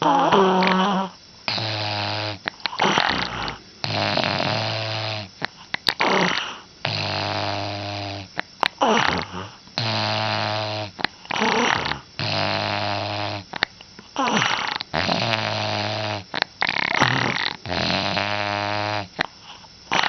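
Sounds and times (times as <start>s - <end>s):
person snoring: 0.0s - 13.6s, 14.2s - 20.0s.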